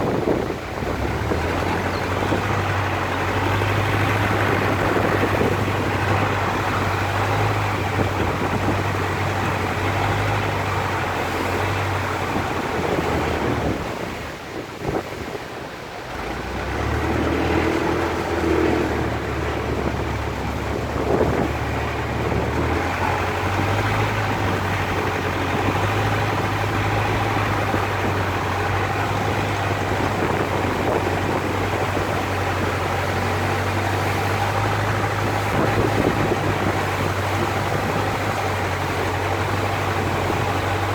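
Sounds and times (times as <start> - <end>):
boat engine humming: 0.0 - 40.9
water rushing: 0.0 - 40.9.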